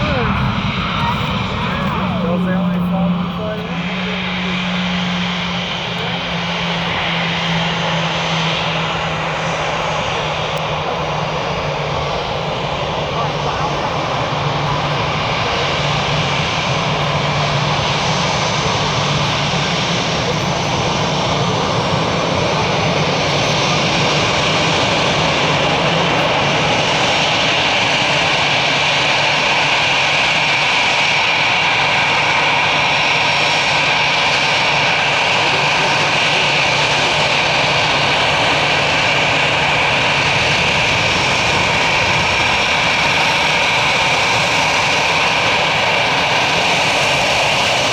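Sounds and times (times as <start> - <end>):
high engine whine: 0.0 - 47.9
jet engines in cabin: 0.0 - 47.9.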